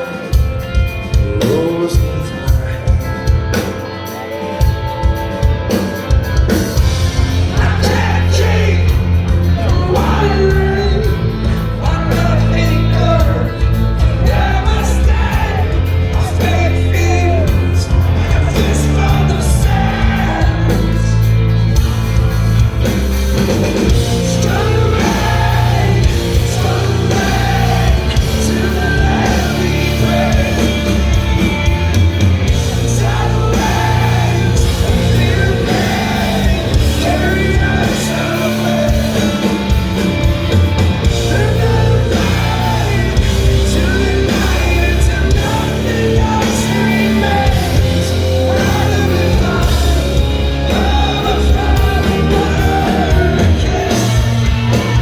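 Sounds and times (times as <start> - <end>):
lead vocalist singing: 0.0 - 21.9, 23.6 - 55.0
live rock band playing: 0.0 - 55.0.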